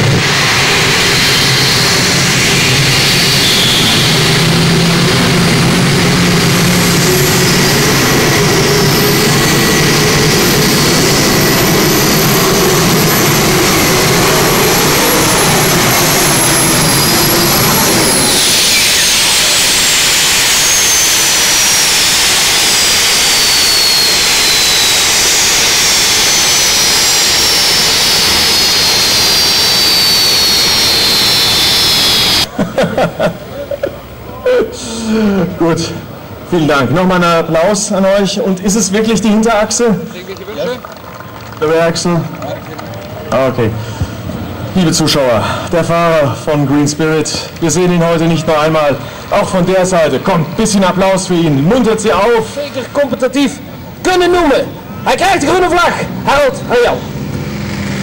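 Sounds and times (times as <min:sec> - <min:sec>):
high turbine whine: 0:00.0 - 0:58.0.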